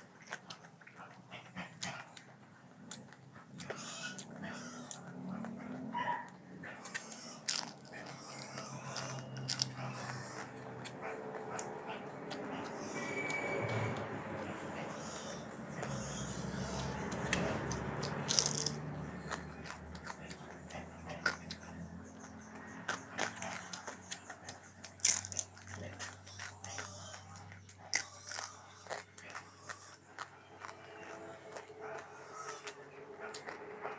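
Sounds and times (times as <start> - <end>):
person chewing flaky flatbread: 0.0 - 33.9.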